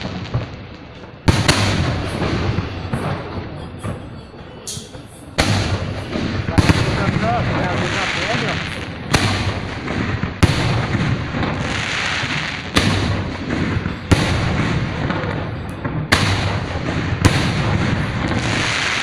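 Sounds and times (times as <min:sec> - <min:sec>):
crackling hiss: 0:00.0 - 0:19.0
firework shells bursting: 0:00.0 - 0:19.0.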